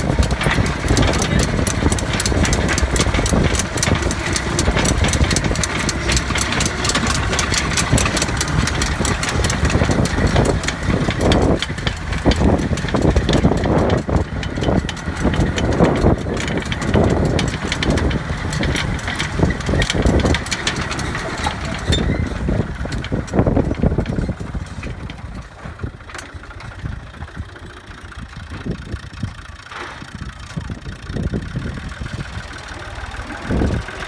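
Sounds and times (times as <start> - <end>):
rapid clatter of ticks: 0.0 - 34.0
tractor engine running: 0.0 - 34.0.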